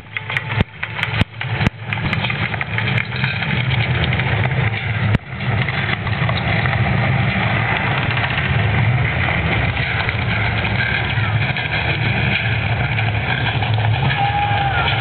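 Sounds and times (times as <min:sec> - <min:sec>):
sound system low rumble: 0:00.0 - 0:15.0.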